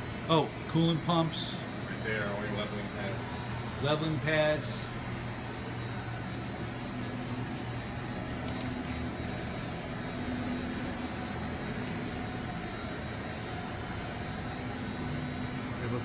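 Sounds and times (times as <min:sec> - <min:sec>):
faint high whine: 0:00.0 - 0:16.0
machine hum: 0:00.0 - 0:16.0.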